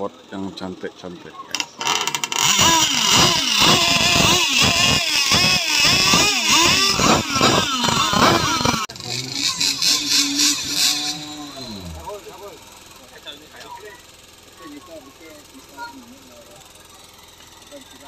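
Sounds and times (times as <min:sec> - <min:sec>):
small two-stroke engines revving: 0:00.0 - 0:18.0.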